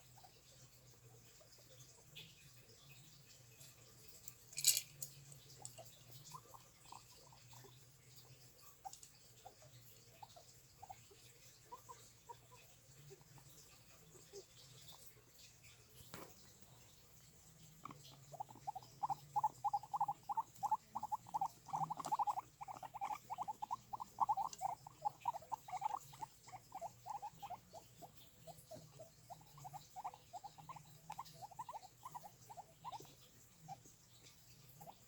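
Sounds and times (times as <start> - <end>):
guinea pig squeaking: 0.0 - 35.0.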